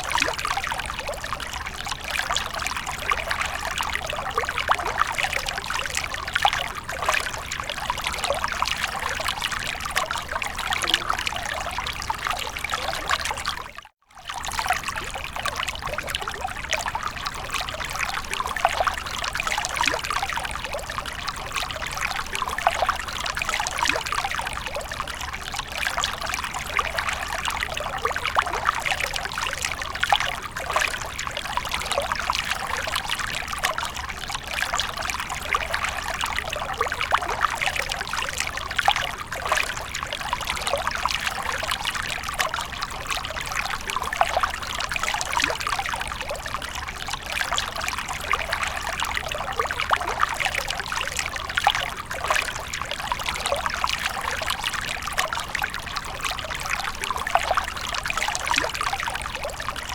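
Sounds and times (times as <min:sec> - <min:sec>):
water pouring into a pool: 0:00.0 - 0:59.9.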